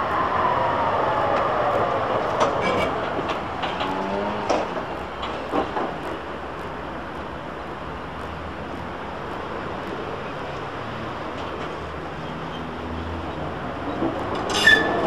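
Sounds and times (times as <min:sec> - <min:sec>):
electric tram hum: 0:00.0 - 0:15.0
outdoor noise: 0:00.0 - 0:15.0.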